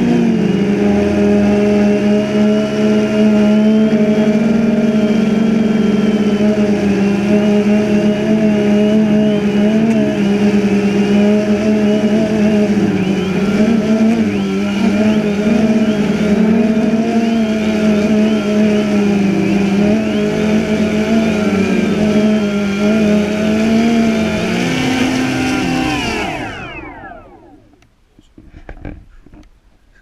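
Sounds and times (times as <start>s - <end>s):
drone propellers whining: 0.0s - 27.9s.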